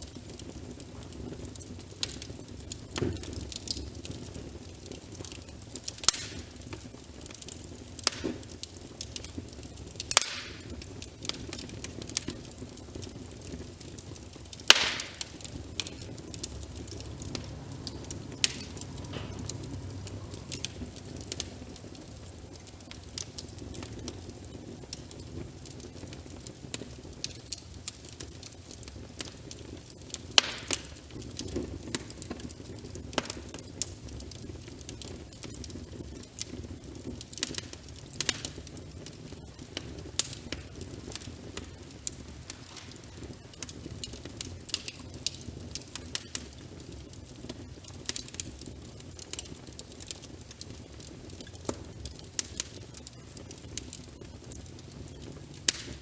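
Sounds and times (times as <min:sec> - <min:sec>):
rain: 0:00.0 - 0:56.0
wood fire crackling and popping: 0:00.0 - 0:56.0.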